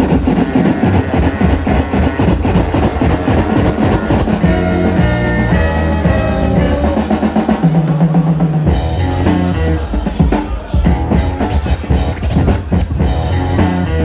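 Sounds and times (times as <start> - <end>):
dj music with drum beat: 0.0 - 14.0.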